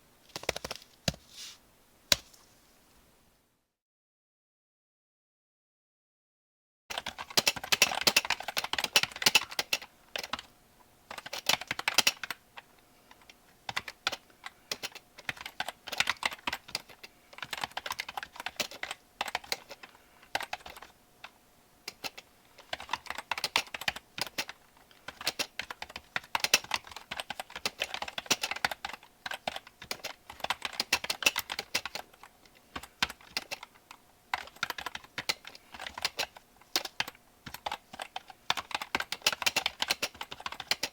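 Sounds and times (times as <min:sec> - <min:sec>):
computer keyboard typing: 0:00.3 - 0:01.2, 0:06.9 - 0:10.5, 0:11.1 - 0:40.9.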